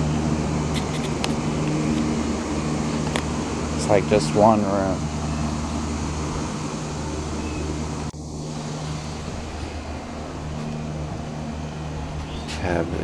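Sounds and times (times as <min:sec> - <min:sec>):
low mechanical hum over hiss: 0:00.0 - 0:13.0.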